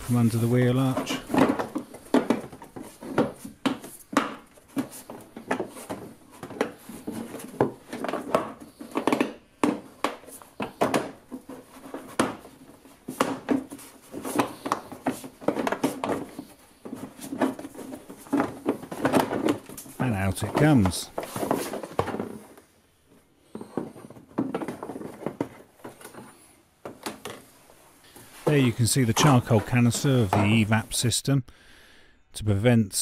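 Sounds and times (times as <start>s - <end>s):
plastic scraping and knocking: 0.0s - 30.8s.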